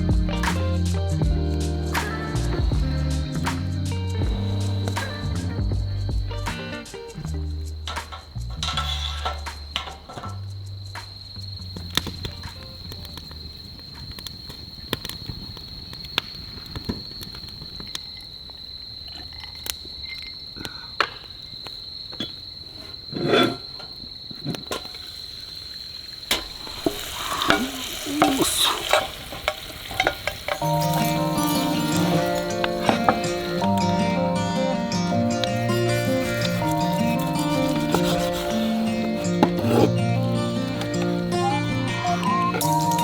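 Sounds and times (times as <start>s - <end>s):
campfire crackling and popping: 0.0s - 18.6s, 24.5s - 43.0s
insect trill: 0.0s - 43.0s.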